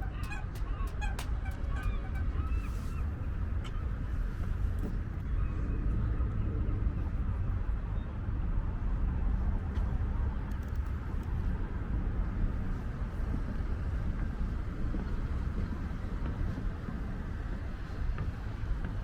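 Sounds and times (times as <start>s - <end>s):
city street ambience: 0.0s - 19.0s
wind buffeting microphone: 0.0s - 19.0s.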